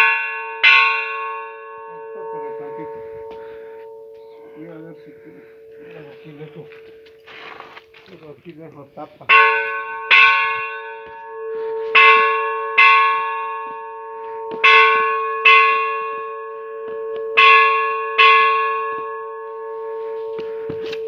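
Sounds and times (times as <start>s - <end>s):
church bell ringing: 0.0s - 21.0s.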